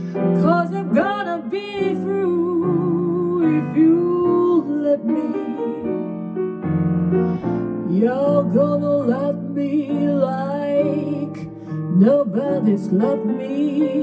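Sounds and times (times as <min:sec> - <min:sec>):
woman singing jazz: 0:00.0 - 0:06.1, 0:07.8 - 0:14.0
piano chords: 0:00.0 - 0:14.0.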